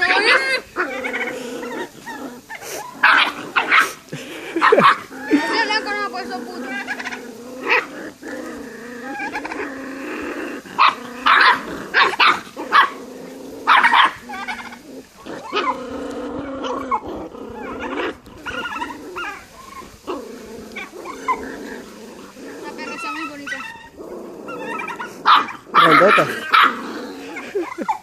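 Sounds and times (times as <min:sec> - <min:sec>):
puppies growling and whining: 0:00.0 - 0:28.0.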